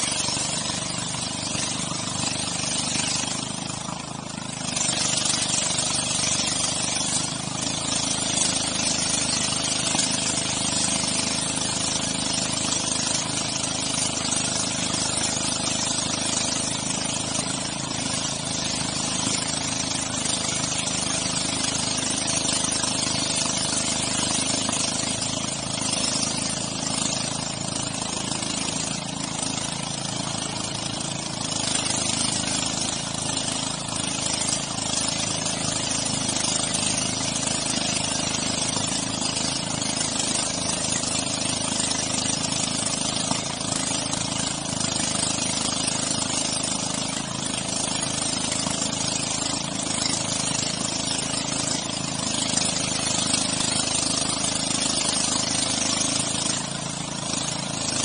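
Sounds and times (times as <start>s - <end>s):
outboard motor running: 0.0s - 58.0s
water rushing along hull: 0.0s - 58.0s.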